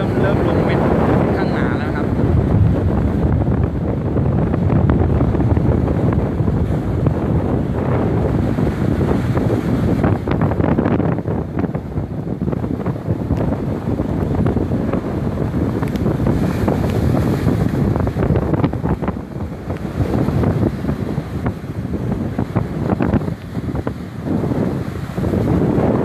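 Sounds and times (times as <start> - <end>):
sea surf: 0.0 - 26.0
strong wind gusting on microphone: 0.0 - 26.0.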